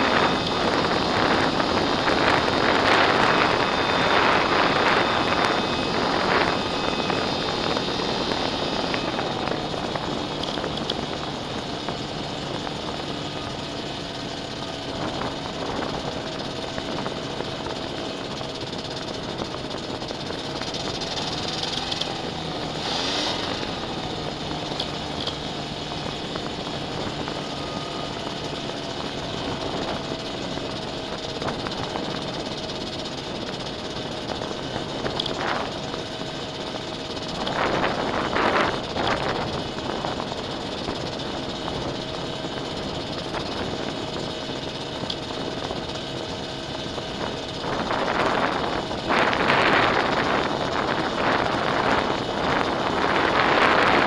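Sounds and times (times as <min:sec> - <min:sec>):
propeller engine running: 0:00.0 - 0:54.0
wind rushing over wing: 0:00.0 - 0:54.0.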